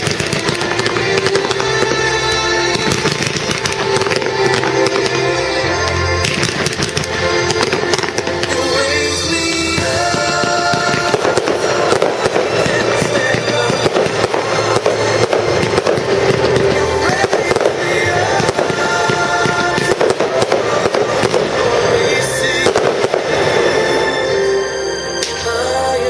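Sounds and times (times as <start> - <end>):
firework shells bursting: 0.0 - 25.4
loud music: 0.0 - 26.0.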